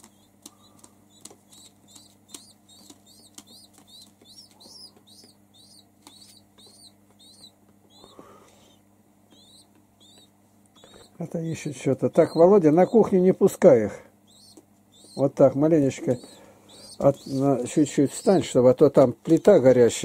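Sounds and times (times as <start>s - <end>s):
pigeon squab peeping: 0.0s - 13.6s, 14.2s - 19.6s.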